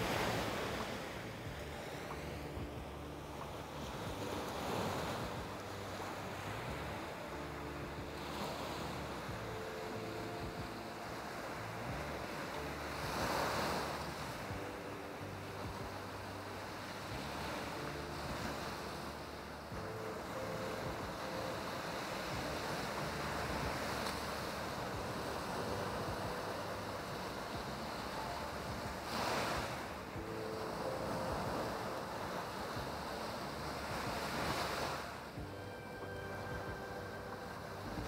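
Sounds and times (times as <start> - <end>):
sea waves breaking: 0.0 - 38.0.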